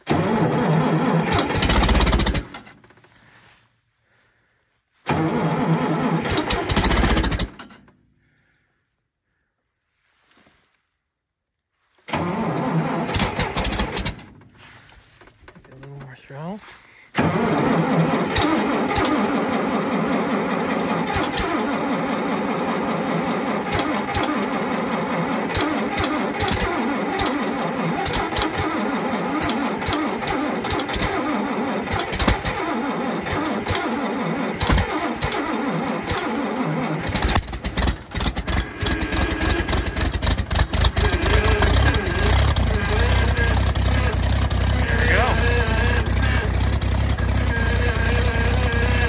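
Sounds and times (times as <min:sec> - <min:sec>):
tractor engine running: 0:00.0 - 0:08.2, 0:12.0 - 0:49.0
engine cranking by starter: 0:00.0 - 0:08.7, 0:11.9 - 0:49.0.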